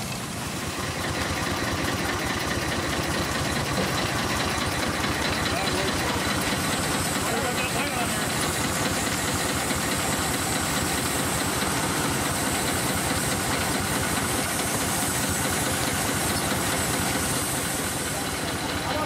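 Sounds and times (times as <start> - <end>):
circular saw spinning: 0.0 - 19.0
steam engine beat: 0.0 - 19.0
steam hiss: 0.0 - 19.0.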